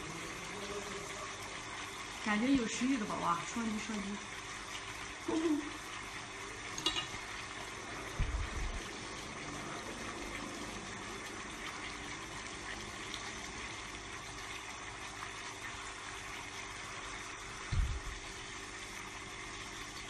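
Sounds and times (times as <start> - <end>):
faint hum tones: 0.0 - 20.0.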